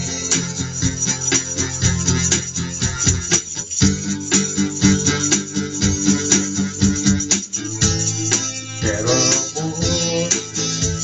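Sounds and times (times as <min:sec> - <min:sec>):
acoustic guitar strumming: 0:00.0 - 0:11.0
tambourine jingling: 0:00.0 - 0:11.0.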